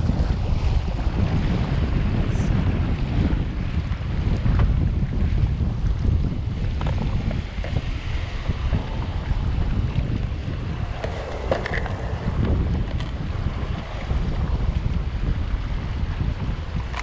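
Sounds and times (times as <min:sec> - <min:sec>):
sea waves washing on rocks: 0:00.0 - 0:17.0
wind buffeting microphone: 0:00.0 - 0:17.0.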